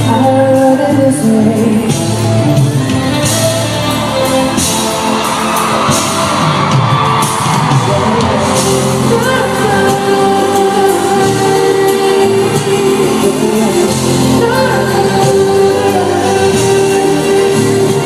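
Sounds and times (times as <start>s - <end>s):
live pop band music: 0.0s - 18.0s
crowd cheering and screaming: 2.6s - 18.0s.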